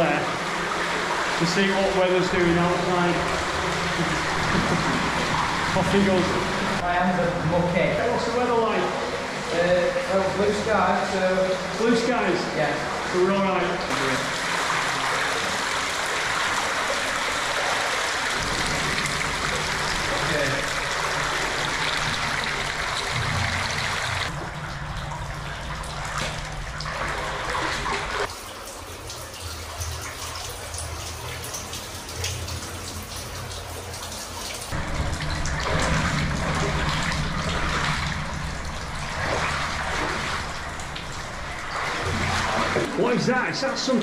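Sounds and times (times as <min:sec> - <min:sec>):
brook water rushing and splashing: 0:00.0 - 0:24.4, 0:31.1 - 0:44.0.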